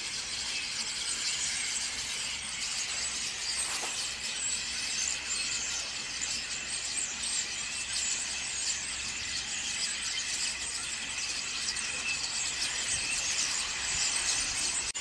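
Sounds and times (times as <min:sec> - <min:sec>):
flock of starlings chattering: 0:00.0 - 0:15.0.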